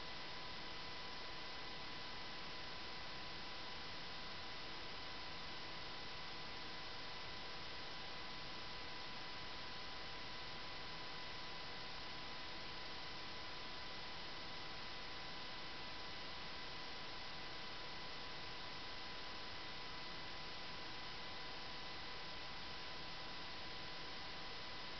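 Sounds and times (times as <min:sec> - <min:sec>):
faint high-pitched whine: 0:00.0 - 0:24.9.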